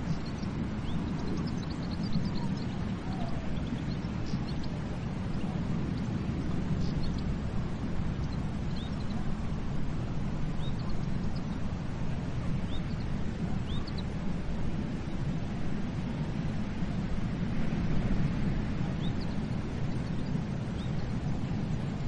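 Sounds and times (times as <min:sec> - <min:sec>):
small birds chirping: 0:00.0 - 0:14.2, 0:18.2 - 0:22.0
sea surf rushing: 0:00.0 - 0:22.0.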